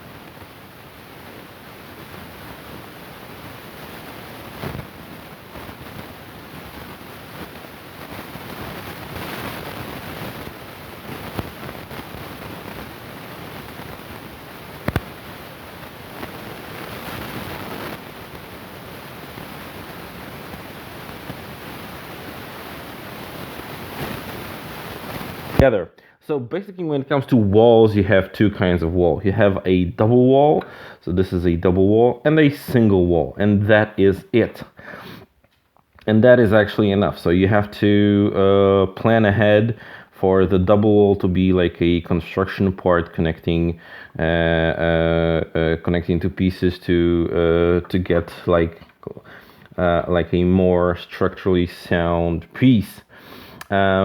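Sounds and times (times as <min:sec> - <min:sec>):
recording hiss: 0:00.0 - 0:54.0.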